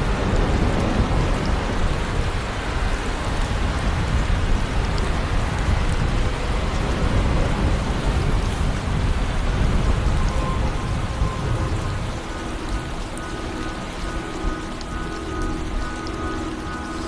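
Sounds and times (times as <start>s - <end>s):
deep rumbling thunder: 0.0s - 17.0s
heavy rain: 0.0s - 17.0s
faint musical tones: 2.0s - 17.0s.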